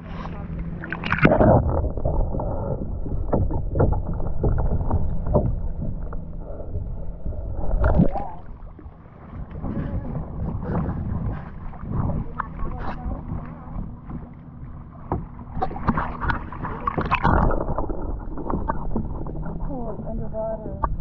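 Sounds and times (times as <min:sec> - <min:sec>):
paddle splashing through water: 0:00.0 - 0:06.6, 0:07.7 - 0:19.9
water sloshing at hull: 0:00.0 - 0:21.0.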